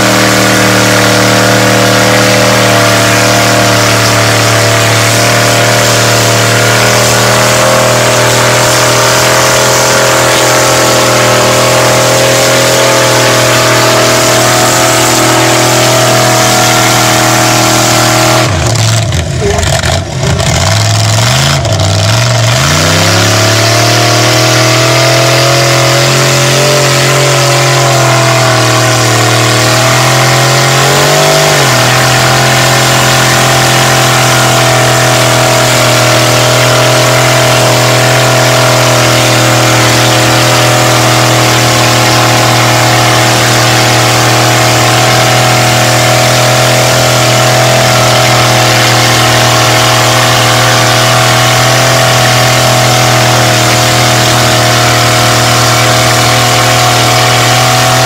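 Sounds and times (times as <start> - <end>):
buggy engine at high revs: 0.0 - 58.0
tires spinning in mud: 0.0 - 58.0.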